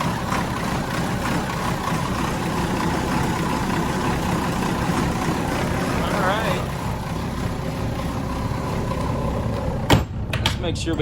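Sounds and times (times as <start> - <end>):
diesel engines idling: 0.0 - 11.0.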